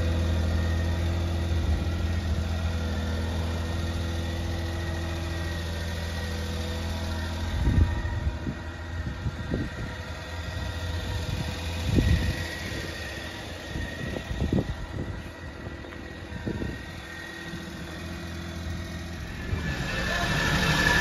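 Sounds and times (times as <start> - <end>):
small truck engine idling: 0.0 - 21.0.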